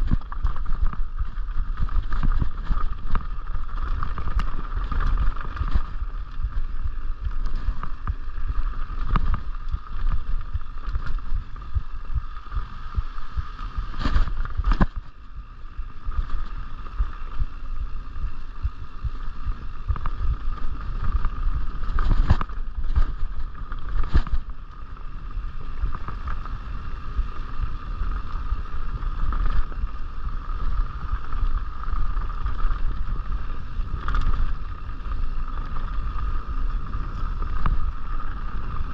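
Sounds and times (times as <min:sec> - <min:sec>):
bike tyres on packed dirt: 0:00.0 - 0:38.9
wind buffeting microphone: 0:00.0 - 0:38.9.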